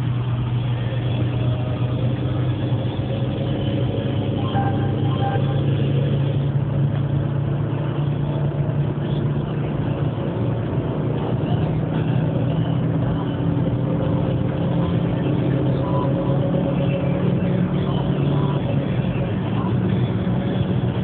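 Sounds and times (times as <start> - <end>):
car engine drone: 0.0 - 21.0
wind and tyre noise: 0.0 - 21.0.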